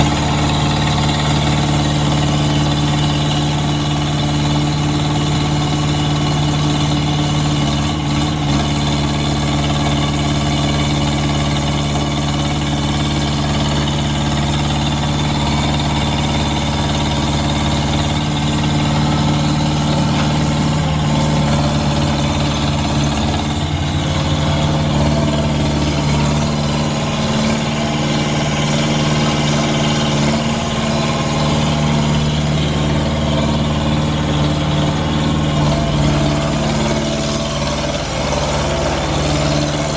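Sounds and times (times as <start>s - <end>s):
loader engine idling: 0.0s - 39.9s.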